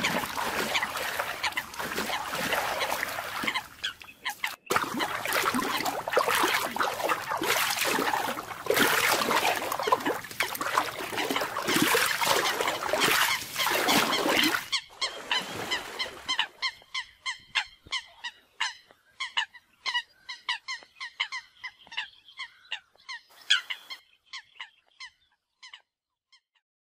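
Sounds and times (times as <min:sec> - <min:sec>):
coots calling: 0:00.0 - 0:25.8.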